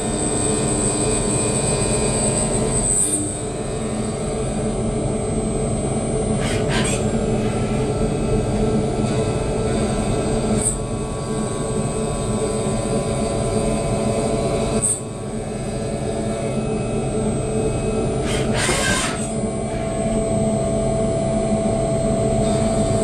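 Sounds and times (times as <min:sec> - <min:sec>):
milling machine whining: 0:00.0 - 0:23.0.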